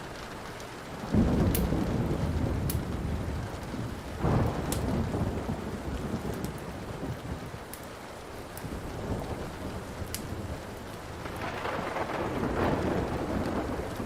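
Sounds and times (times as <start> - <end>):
steady rain: 0.0 - 14.0
wood fire popping: 0.6 - 14.0
thunder rolling: 1.0 - 7.7, 8.6 - 14.0.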